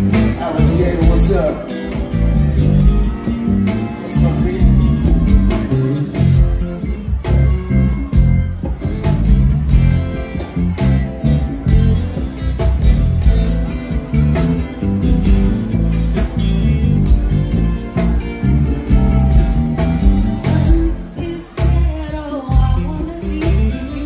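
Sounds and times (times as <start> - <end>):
bass guitar: 0.0 - 24.0
drum kit: 0.0 - 24.0
electric guitar: 0.0 - 24.0.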